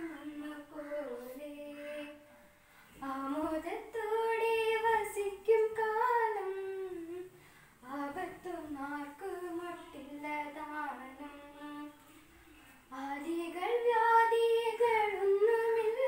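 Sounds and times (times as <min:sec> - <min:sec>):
child singing: 0:00.0 - 0:02.3, 0:03.0 - 0:12.3, 0:12.9 - 0:16.0.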